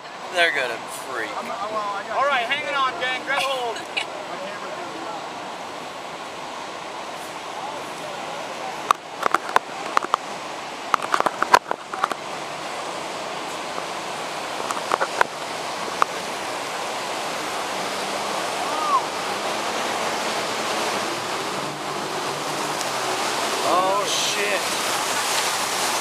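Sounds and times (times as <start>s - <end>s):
whitewater roaring: 0.0s - 26.0s.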